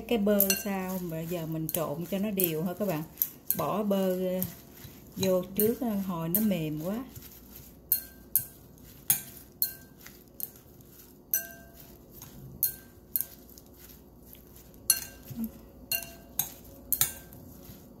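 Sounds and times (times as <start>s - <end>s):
utensils clinking against glass bowl: 0.0s - 17.8s.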